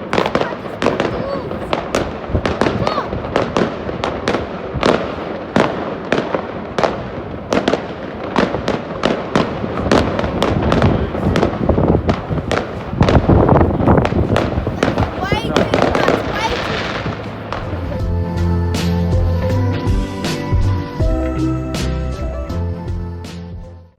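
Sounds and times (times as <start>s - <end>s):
fireworks bangs and crackling: 0.0s - 21.5s.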